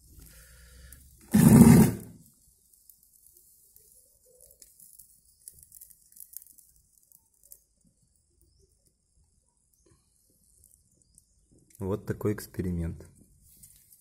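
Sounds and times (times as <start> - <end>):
faint crackles of burning paper: 0.0 - 1.3, 2.2 - 14.0.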